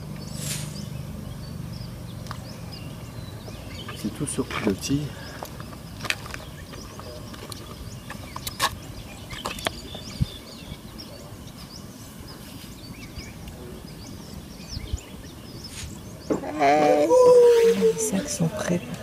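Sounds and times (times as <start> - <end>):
birds chirping and calling: 0.0 - 19.0
low steady background noise: 0.0 - 19.0.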